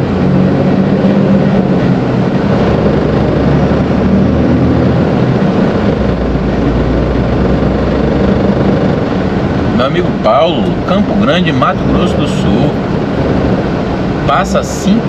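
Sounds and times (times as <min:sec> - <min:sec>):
diesel truck engine running: 0:00.0 - 0:15.0
road noise: 0:00.0 - 0:15.0.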